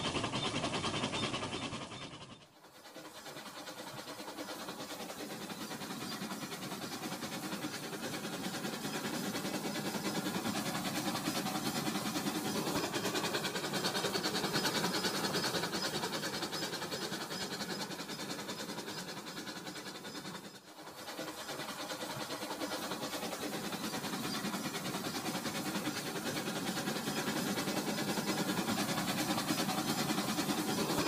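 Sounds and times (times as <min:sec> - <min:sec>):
toy train rattling along track: 0:00.0 - 0:31.0.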